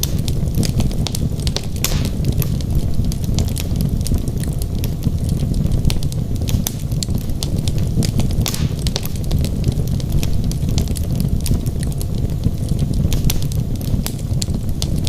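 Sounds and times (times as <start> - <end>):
logs crackling in a fireplace: 0.0 - 15.0.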